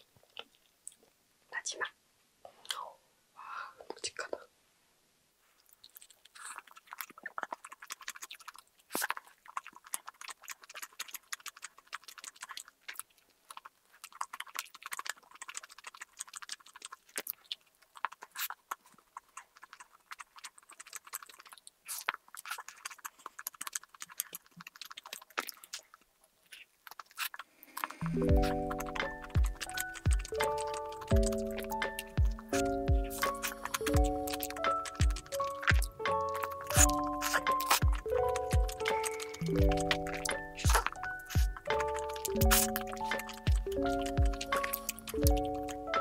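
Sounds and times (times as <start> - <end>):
crunchy chewing: 5.4 - 46.0.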